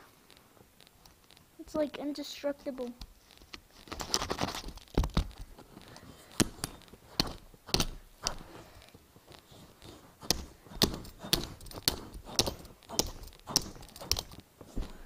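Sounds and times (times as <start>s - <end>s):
scraping and crunching: 0.0s - 15.0s.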